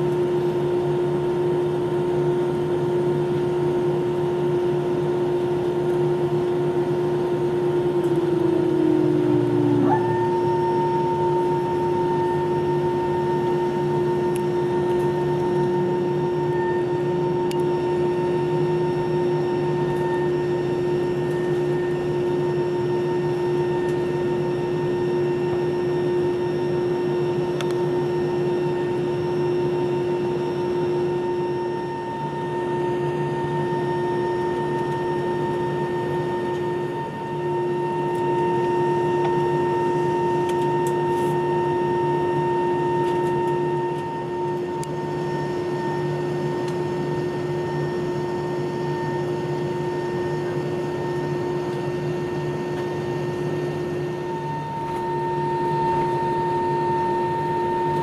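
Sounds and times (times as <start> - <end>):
jet engine and air conditioning hum: 0.0 - 58.0
steady whining tones: 0.0 - 58.0.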